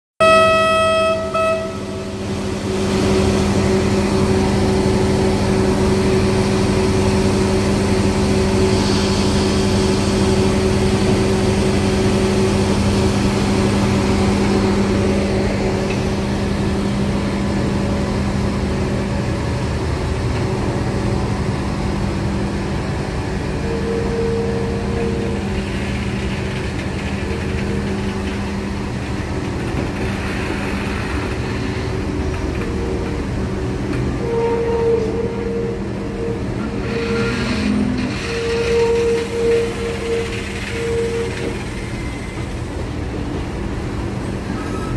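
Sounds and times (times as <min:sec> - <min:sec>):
diesel locomotive engine idling: 0:00.2 - 0:44.9.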